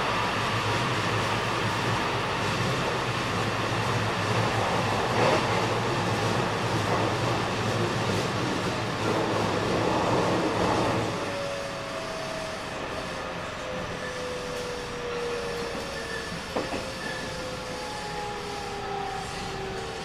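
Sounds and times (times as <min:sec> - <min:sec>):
train rail and running noise: 0:00.0 - 0:20.0.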